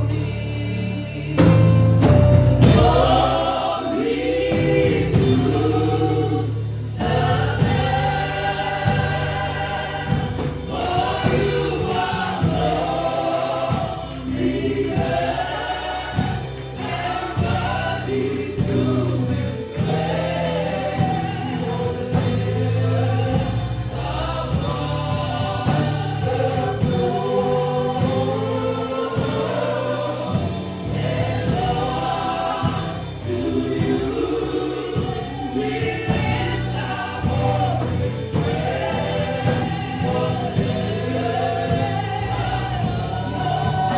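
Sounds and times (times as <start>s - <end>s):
bass notes: 0.0s - 43.9s
choir and congregation singing: 0.0s - 43.9s
percussion beat: 0.0s - 43.9s.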